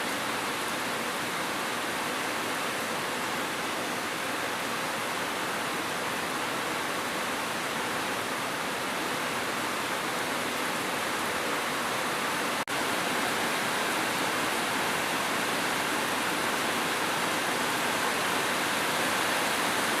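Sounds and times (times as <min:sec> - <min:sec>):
heavy rainfall hiss: 0:00.0 - 0:20.0.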